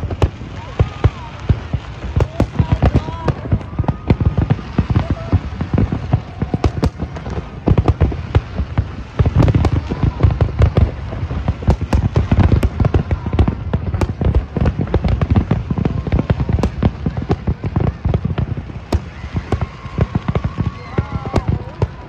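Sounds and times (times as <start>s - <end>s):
fireworks booming and cracking: 0.0s - 22.0s.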